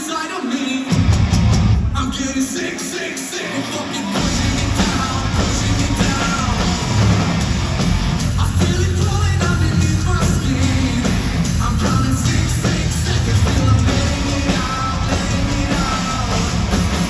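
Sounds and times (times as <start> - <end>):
heavy rock band playing live: 0.0 - 17.0
person singing and shouting: 1.9 - 7.3, 8.2 - 17.0.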